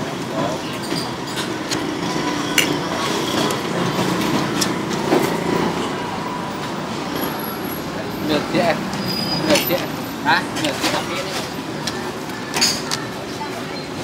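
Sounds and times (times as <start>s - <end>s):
traffic and motor noise: 0.0s - 14.0s.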